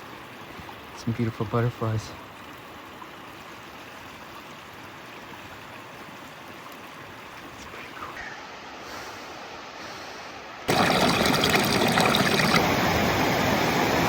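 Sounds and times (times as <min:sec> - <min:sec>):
mountain stream flowing: 0:00.0 - 0:14.0.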